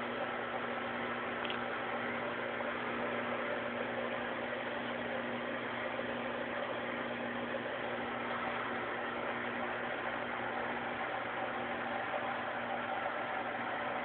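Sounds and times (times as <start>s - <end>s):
aquarium pump humming: 0.0s - 14.0s.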